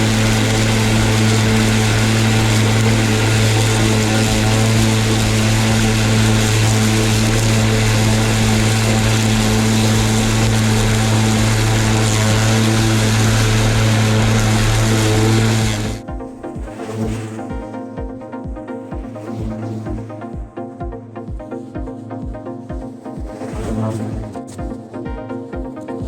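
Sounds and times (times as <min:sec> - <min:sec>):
lawn mower running: 0:00.0 - 0:18.4, 0:22.7 - 0:26.0.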